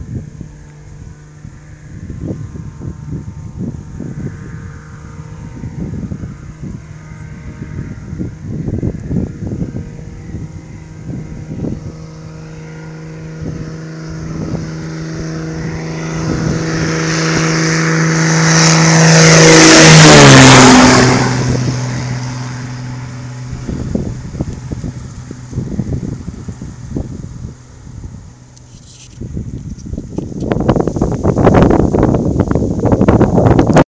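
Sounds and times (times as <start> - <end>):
propeller plane engine drone: 0.0 - 33.8
wind buffeting microphone: 0.0 - 33.9.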